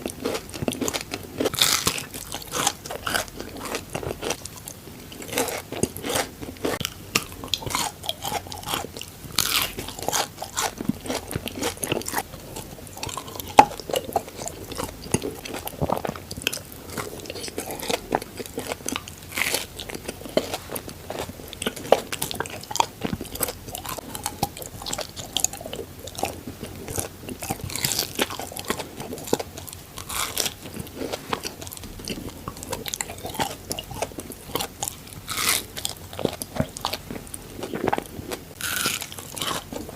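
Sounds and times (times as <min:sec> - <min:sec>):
crunchy chocolate chewing: 0:00.0 - 0:39.9.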